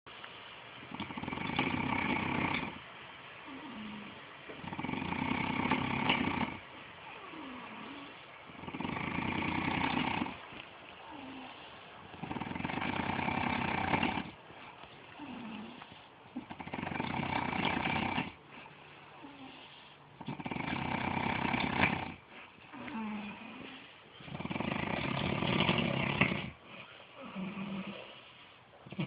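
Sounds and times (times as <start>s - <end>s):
person snoring: 0.9s - 2.8s, 3.5s - 6.6s, 7.2s - 10.4s, 11.1s - 14.4s, 15.2s - 18.4s, 19.2s - 26.6s, 27.2s - 28.3s.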